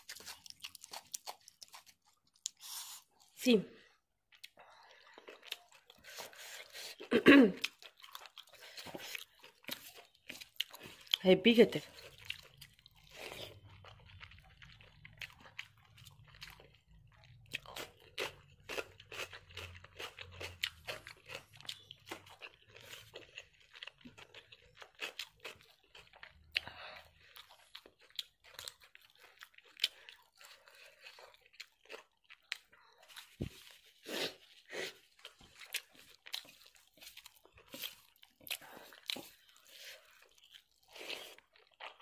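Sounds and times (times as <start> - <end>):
chewing: 0.0 - 3.4, 4.3 - 11.2, 11.8 - 42.0.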